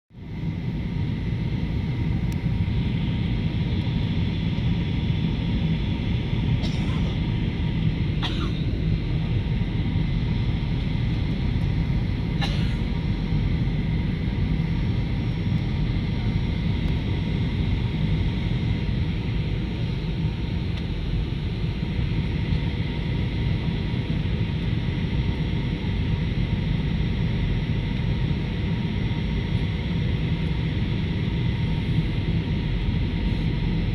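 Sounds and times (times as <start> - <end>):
airliner cabin engine roar: 0.2 - 33.9.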